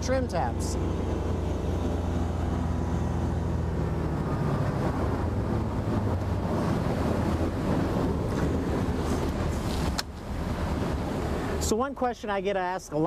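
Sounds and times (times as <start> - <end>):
boat engine slowing: 0.0 - 11.9
wind and water rushing: 0.0 - 13.0.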